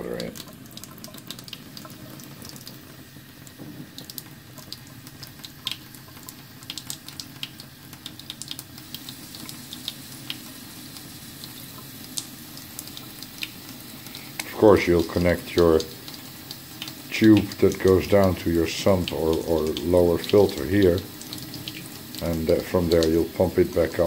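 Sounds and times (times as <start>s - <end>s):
tap water pouring and splashing: 0.0s - 24.0s
water draining into sink: 0.0s - 24.0s.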